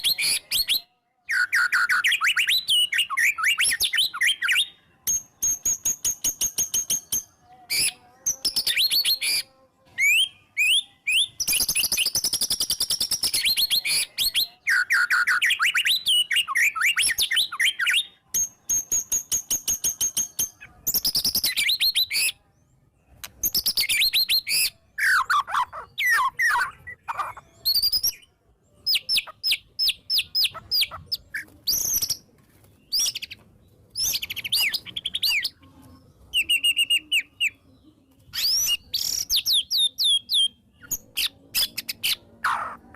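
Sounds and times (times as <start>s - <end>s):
songbird singing loudly: 0.0s - 22.4s, 23.2s - 32.2s, 38.3s - 42.9s.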